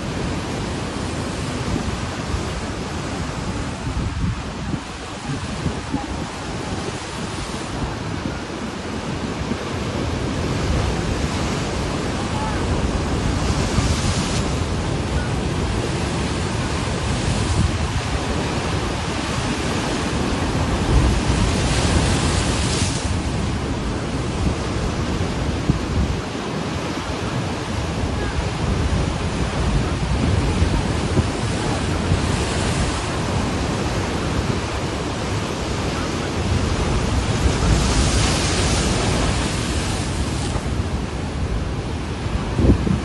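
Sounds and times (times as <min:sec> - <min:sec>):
sea surf breaking: 0:00.0 - 0:43.0
wind buffeting microphone: 0:00.0 - 0:43.0.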